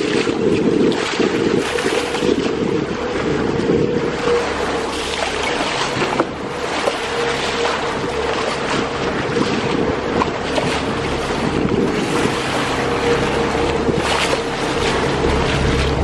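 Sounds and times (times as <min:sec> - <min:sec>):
steady hum: 0:00.0 - 0:16.0
water rushing past a boat: 0:00.0 - 0:16.0
wind buffeting the microphone: 0:00.0 - 0:16.0.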